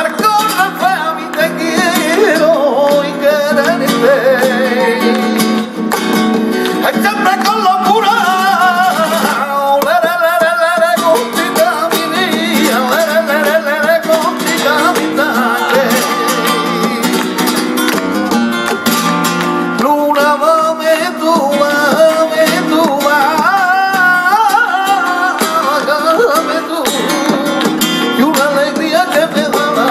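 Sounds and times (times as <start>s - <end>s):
man singing ornamented lines: 0.0s - 5.6s, 6.8s - 17.2s, 19.8s - 29.9s
flamenco guitar: 0.0s - 29.9s
rhythmic hand clapping: 0.0s - 29.9s.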